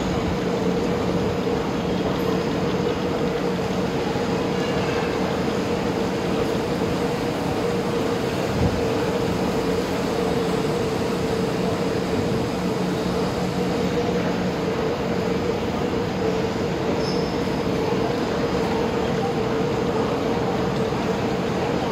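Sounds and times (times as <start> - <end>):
mechanical hum with low rumble: 0.0 - 21.9.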